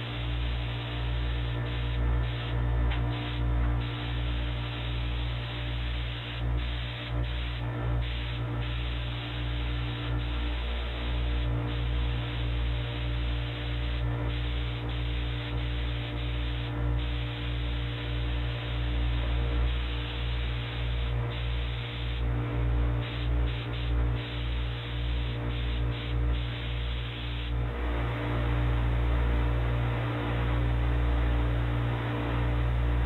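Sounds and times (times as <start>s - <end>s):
spray gun air hiss: 0.0s - 29.7s.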